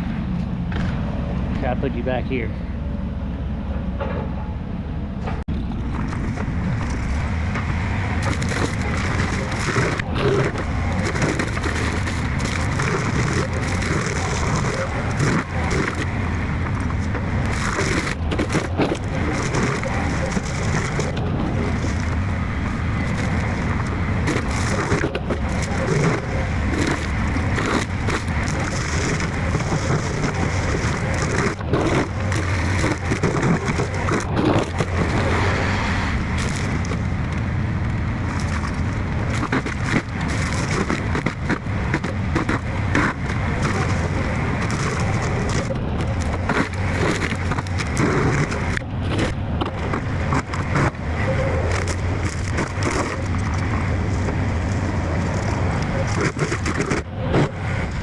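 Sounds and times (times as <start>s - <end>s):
diesel engine running under load: 0.0s - 58.0s
wood splintering and breaking: 5.5s - 58.0s.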